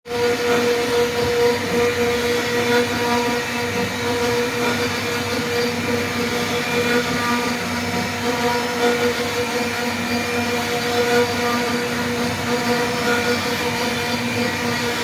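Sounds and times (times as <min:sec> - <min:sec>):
router spindle motor whine: 0:00.1 - 0:15.0.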